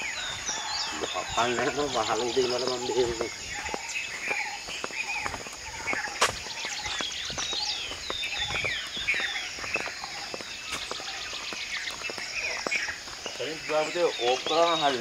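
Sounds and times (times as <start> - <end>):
footsteps on dirt: 0.0 - 15.0
high insect trill: 0.0 - 15.0.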